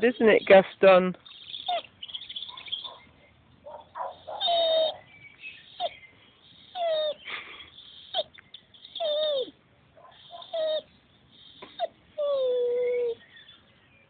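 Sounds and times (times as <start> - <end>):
dog whining: 1.2 - 3.1, 3.7 - 13.6.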